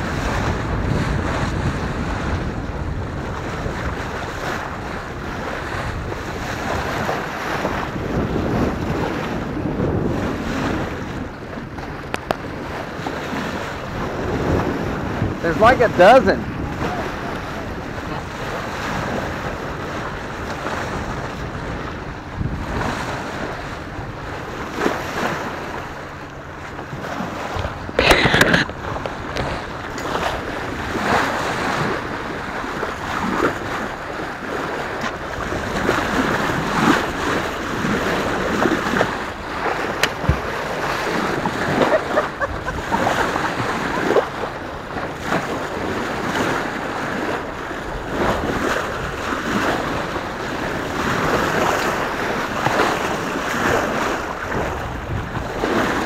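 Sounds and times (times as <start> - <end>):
bow wave splashing along hull: 0.0 - 56.0
wind buffeting microphone: 0.0 - 56.0.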